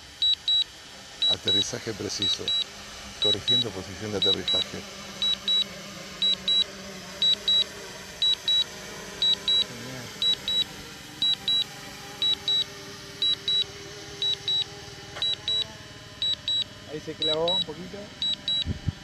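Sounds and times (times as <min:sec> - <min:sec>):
faint steady hum: 0:00.0 - 0:19.0
rapid high double beeps: 0:00.2 - 0:18.7.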